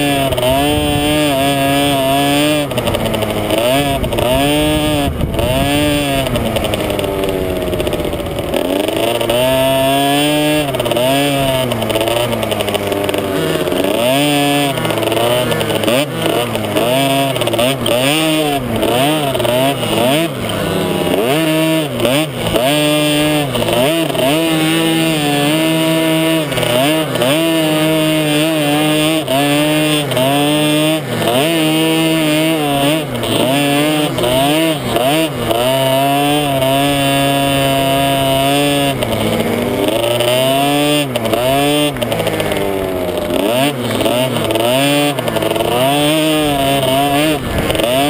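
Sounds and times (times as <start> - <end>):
two-stroke dirt bike revving: 0.0 - 48.0.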